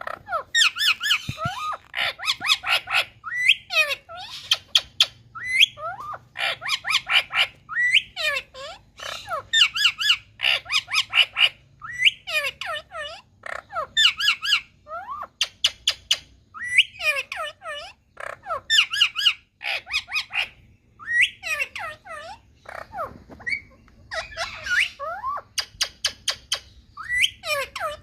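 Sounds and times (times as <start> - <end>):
parrot squawking: 0.0 - 28.0.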